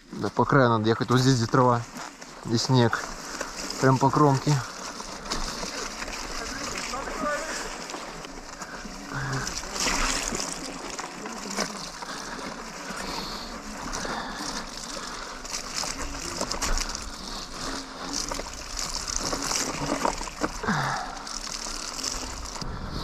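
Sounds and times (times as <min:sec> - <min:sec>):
tyres rolling through slush: 0:00.0 - 0:23.0
small crunches and clicks: 0:00.1 - 0:22.7.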